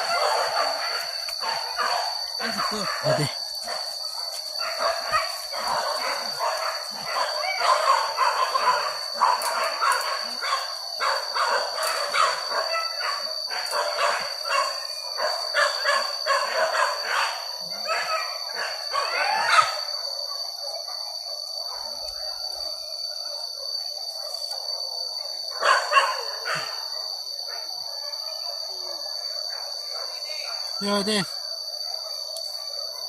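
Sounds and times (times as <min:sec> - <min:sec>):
dogs barking and yelping: 0:00.0 - 0:33.0
high insect drone: 0:00.0 - 0:33.0.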